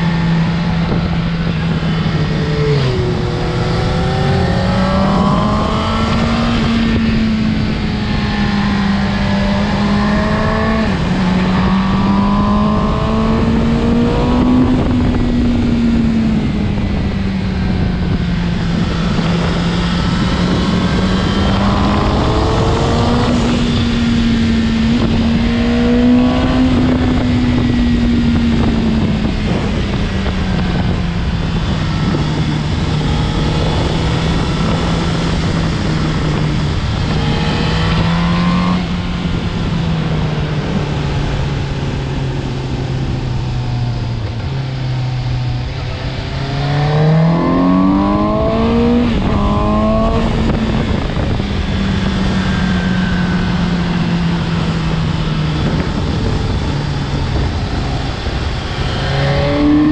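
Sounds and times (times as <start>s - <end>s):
motorcycle engine running: 0.0s - 59.9s
wind rushing: 0.0s - 59.9s.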